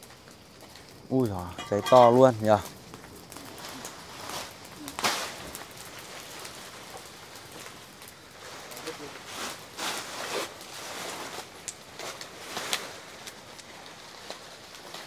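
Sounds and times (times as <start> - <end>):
brush fire crackling: 0.0 - 15.0.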